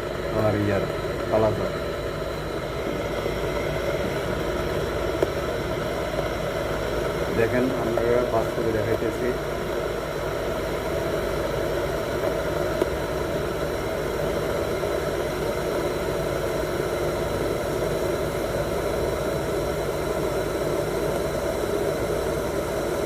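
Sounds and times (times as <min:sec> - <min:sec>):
electric kettle heating water: 0:00.0 - 0:23.0.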